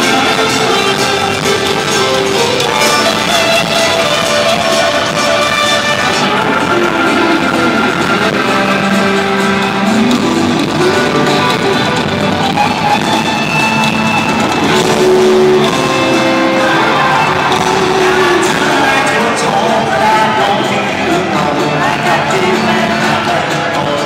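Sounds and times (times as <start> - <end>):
held gliding melody notes: 0.0 - 23.8
guitar: 0.0 - 24.0
live band playing: 0.0 - 24.0.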